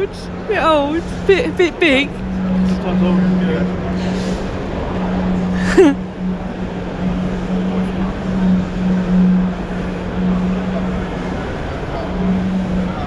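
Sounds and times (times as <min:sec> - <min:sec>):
crowd hubbub: 0:00.0 - 0:13.0
steady low hum: 0:00.0 - 0:13.0.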